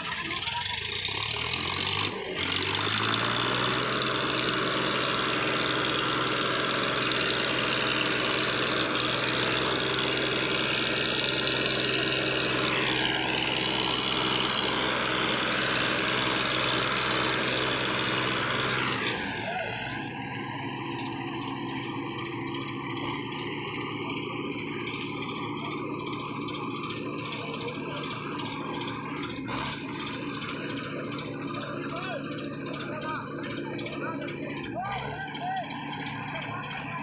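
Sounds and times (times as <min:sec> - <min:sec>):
tractor engines pulling under load: 0:00.0 - 0:37.0.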